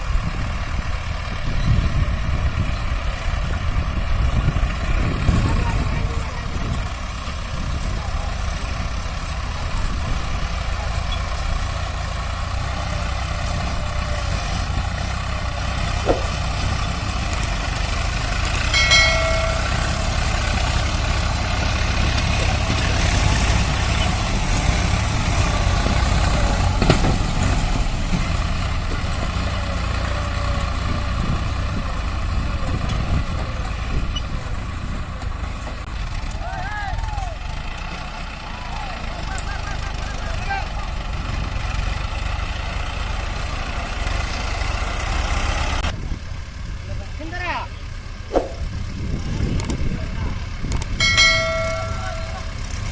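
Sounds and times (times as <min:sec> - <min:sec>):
tractor engine rumbling: 0:00.0 - 0:52.9.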